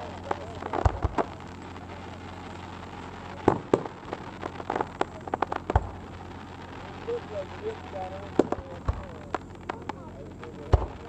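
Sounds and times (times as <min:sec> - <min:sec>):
crackling firework pops: 0:00.0 - 0:11.0
firework bangs: 0:00.0 - 0:11.0
low background noise: 0:00.0 - 0:11.0.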